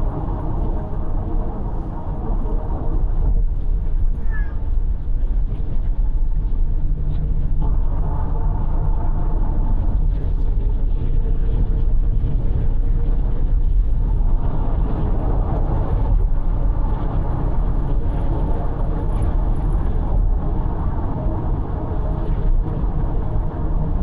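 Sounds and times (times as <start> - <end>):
low engine hum: 0.0 - 24.0
road and tyre noise: 0.0 - 24.0.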